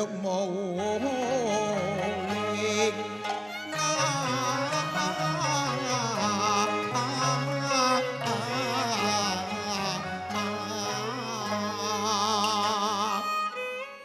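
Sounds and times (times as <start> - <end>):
opera instrumental melody with vibrato: 0.0 - 14.0.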